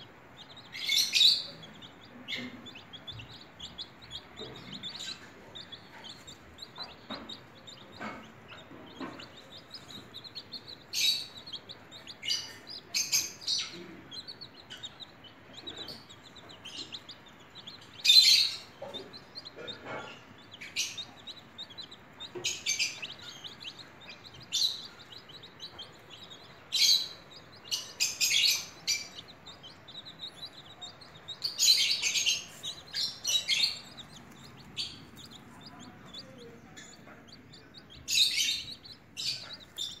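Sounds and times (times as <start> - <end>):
baby chicks peeping: 0.0 - 40.0.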